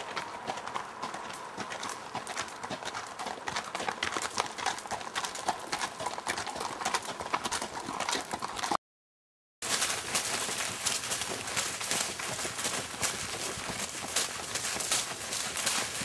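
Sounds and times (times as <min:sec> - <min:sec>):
horse hoofbeats on rocky trail: 0:00.0 - 0:08.8, 0:09.6 - 0:16.0.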